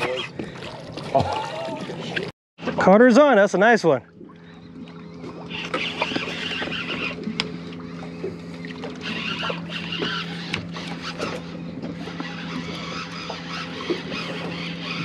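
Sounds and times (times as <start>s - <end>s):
outboard engine idling: 0.0s - 15.0s.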